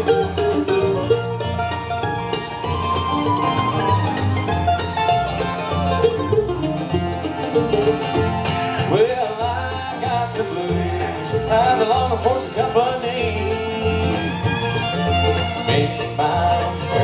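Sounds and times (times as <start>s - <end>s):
acoustic guitars: 0.0s - 17.0s
dobro sliding notes: 0.0s - 17.0s
fiddle: 0.0s - 17.0s
mandolin: 0.0s - 17.0s
upright bass walking bass: 0.0s - 17.0s.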